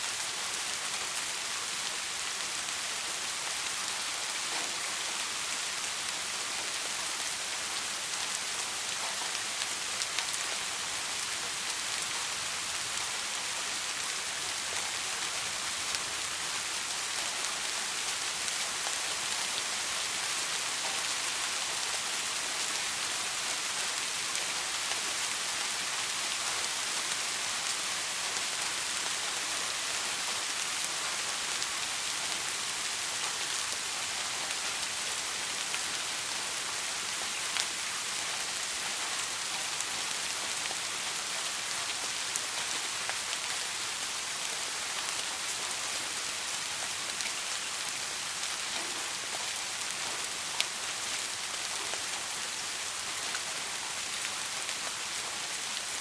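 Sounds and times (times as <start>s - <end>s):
soft rain hissing: 0.0s - 56.0s.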